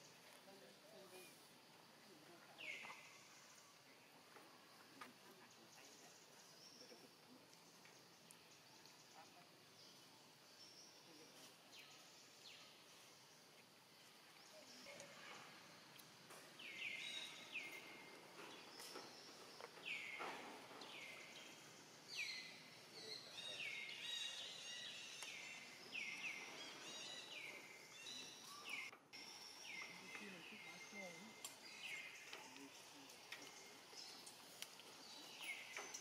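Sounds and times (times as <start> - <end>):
faint outdoor background: 0.0 - 36.0.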